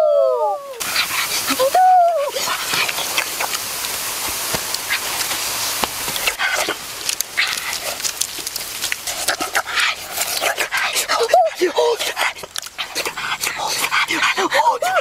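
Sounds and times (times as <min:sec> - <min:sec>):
fat sizzling on hot embers: 0:00.7 - 0:15.0.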